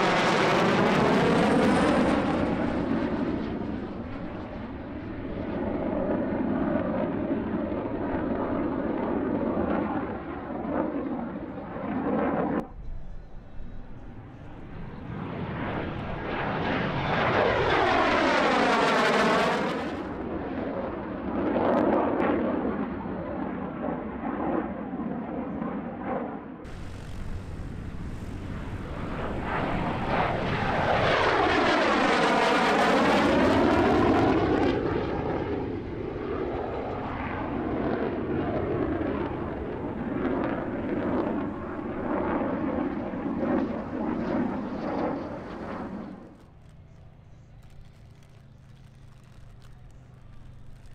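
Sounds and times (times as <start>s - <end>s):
jet fighter passing overhead: 0.0s - 50.9s.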